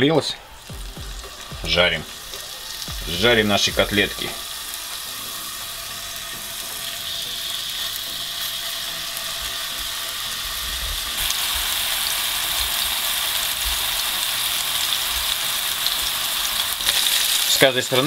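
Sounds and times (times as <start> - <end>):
oil crackling: 0.4 - 18.0
meat sizzling in a frying pan: 0.5 - 18.0.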